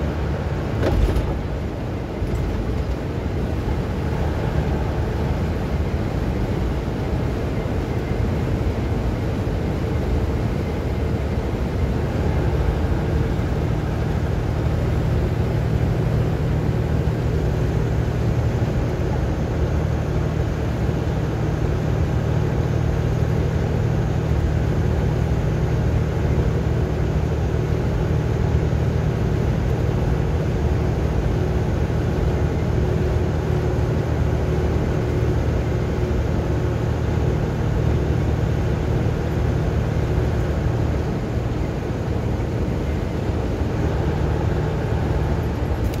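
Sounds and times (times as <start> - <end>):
vehicle engine and tyre drone: 0.0 - 46.0.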